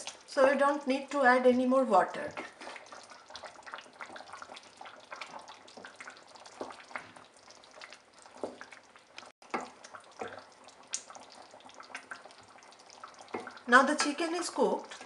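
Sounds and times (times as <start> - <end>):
gravy bubbling and popping: 0.0 - 15.0
wooden spoon stirring: 1.5 - 15.0.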